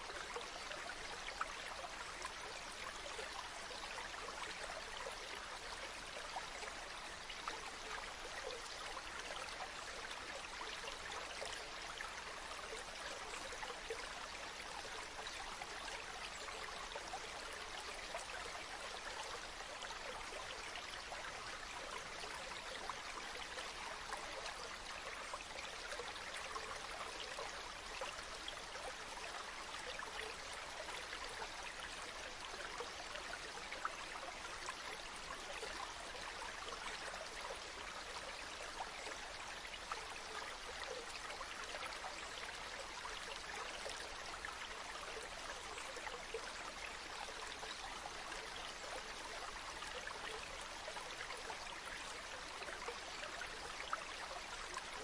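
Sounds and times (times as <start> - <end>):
water running like a stream: 0.0 - 55.0.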